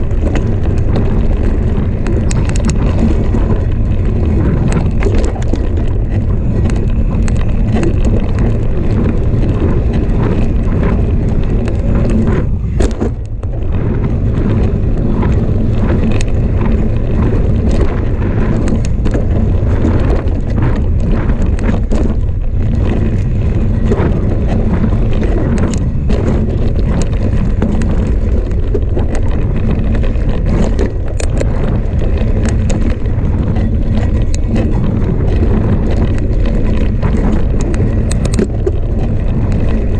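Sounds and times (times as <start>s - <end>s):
bike clicks and rattles: 0.0s - 39.9s
bike tyres on dirt: 0.0s - 39.9s
wind noise on microphone: 0.0s - 39.9s.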